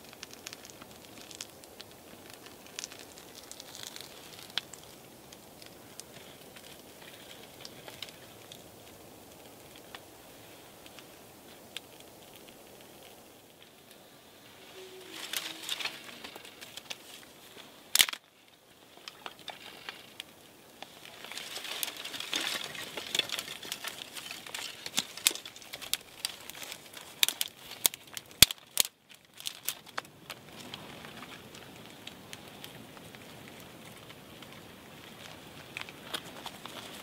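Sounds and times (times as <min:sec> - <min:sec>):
twigs crinkling and snapping: 0:00.0 - 0:37.0
wood fire crackling: 0:00.0 - 0:37.0.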